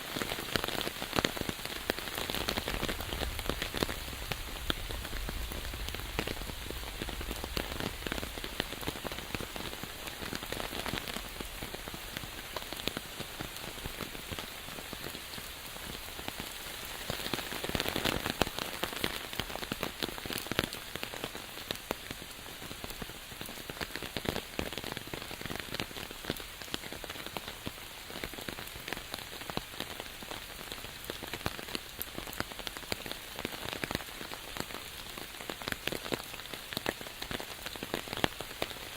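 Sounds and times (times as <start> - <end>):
raindrops ticking on surfaces: 0.0 - 38.9
steady rain falling: 0.0 - 38.9.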